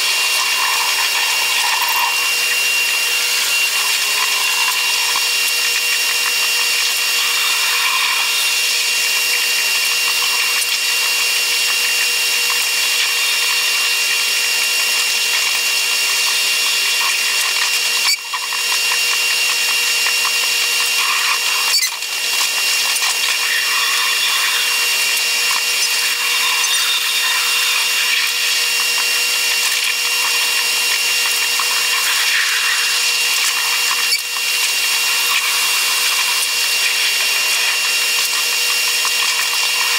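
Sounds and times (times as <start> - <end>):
high-pitched whirring: 0.0 - 39.9.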